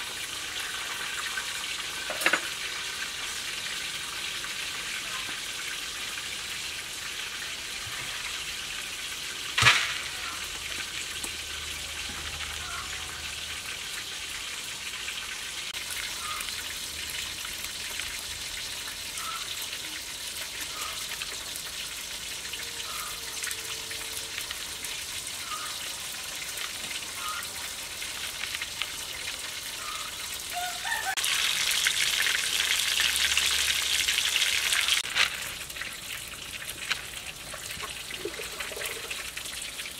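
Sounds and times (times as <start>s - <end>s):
fish deep-frying in oil: 0.0s - 39.9s.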